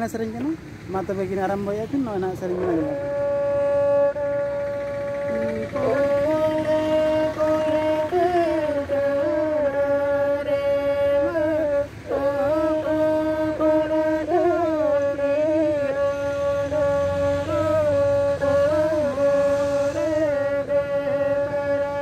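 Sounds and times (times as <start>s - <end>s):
fiddle playing slow melody: 2.5s - 22.0s.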